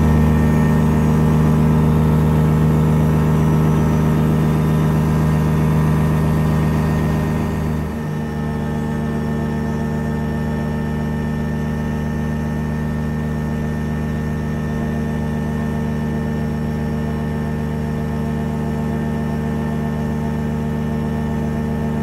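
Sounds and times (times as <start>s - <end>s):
ultralight aircraft engine and propeller: 0.0s - 22.0s.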